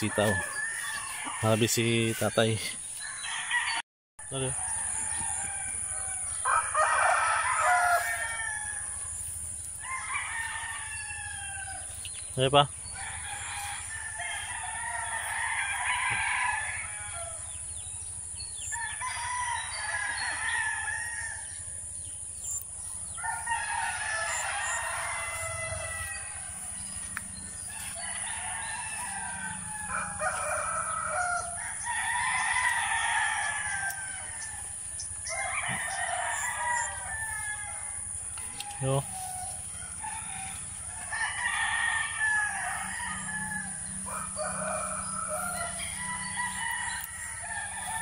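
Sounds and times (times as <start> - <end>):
roosters crowing: 0.0 - 48.0.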